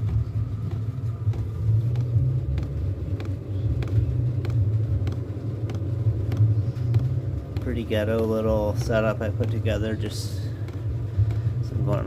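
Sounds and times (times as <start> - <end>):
diesel heater running: 0.0 - 12.0
fuel pump ticking: 0.0 - 12.0.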